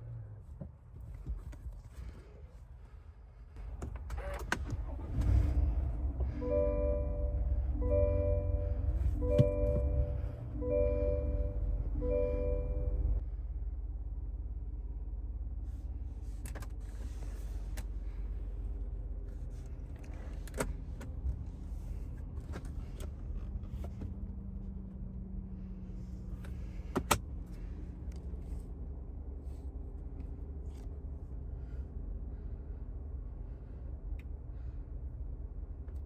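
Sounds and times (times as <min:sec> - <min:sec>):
road and engine rumble in car cabin: 0:00.0 - 0:36.0.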